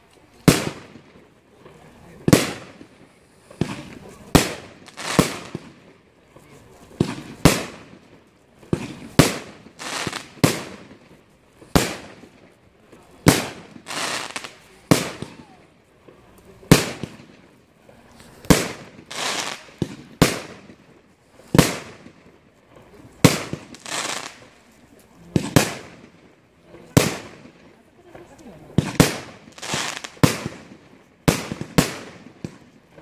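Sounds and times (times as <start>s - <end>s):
fireworks bangs: 0.0s - 24.6s, 25.2s - 33.0s
fireworks crackling hiss: 0.0s - 33.0s.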